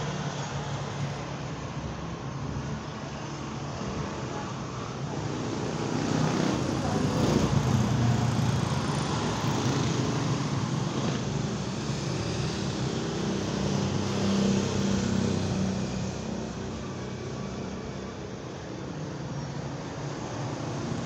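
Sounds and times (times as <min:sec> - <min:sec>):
vehicle engines passing: 0:00.0 - 0:21.0.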